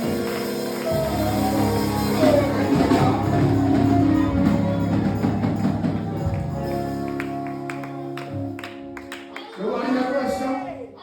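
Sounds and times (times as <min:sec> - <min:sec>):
sustained keyboard chords: 0:00.0 - 0:09.4.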